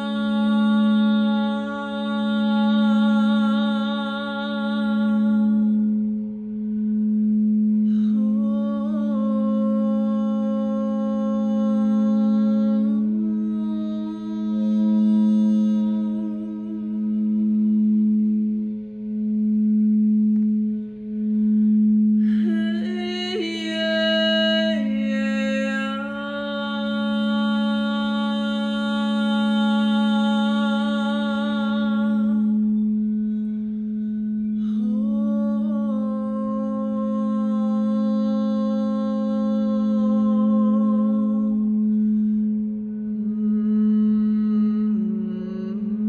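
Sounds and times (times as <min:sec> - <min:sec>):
singing bowl steady low tone: 0:00.0 - 0:46.0.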